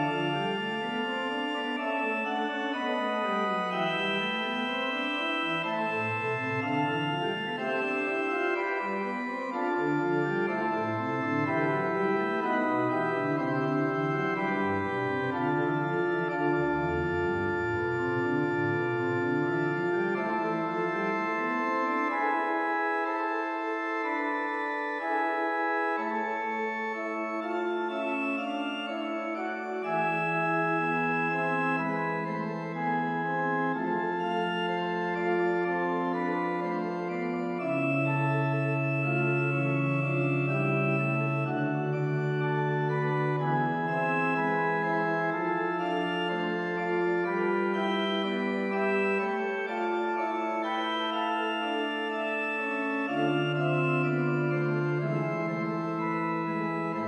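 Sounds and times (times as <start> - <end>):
pipe organ playing a fugue: 0.0 - 57.0.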